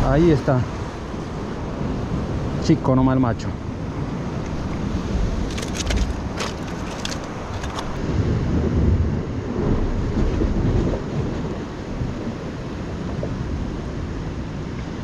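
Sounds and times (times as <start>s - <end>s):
surf on rocky shore: 0.0s - 15.0s
wind buffeting microphone: 0.0s - 15.0s.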